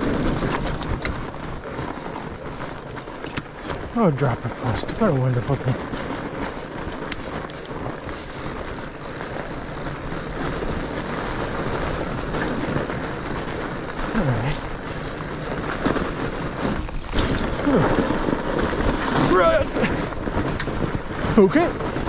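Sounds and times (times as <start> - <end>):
bike tyres rumbling on snow: 0.0 - 22.0
wind buffeting microphone: 0.0 - 22.0.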